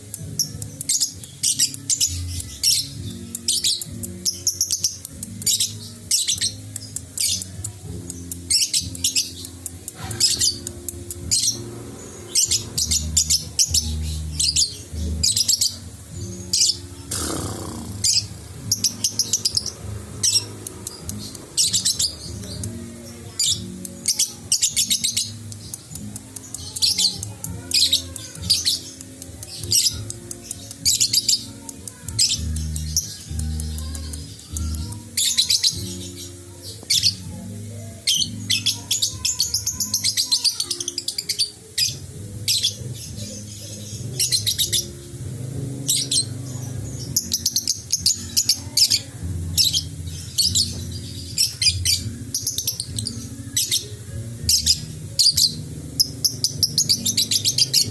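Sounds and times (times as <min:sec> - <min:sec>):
background music: 0:00.0 - 0:57.9
lovebird chirping: 0:00.2 - 0:57.9.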